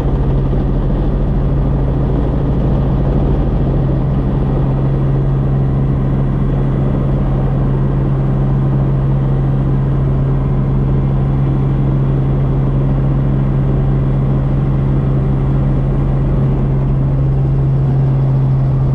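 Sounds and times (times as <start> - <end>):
helicopter engine and rotor drone: 0.0 - 18.9.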